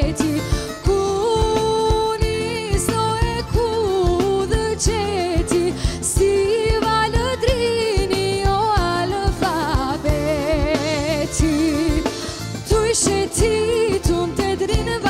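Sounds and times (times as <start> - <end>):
drum kit beat: 0.0 - 15.0
keyboards: 0.0 - 15.0
woman singing: 0.0 - 15.0.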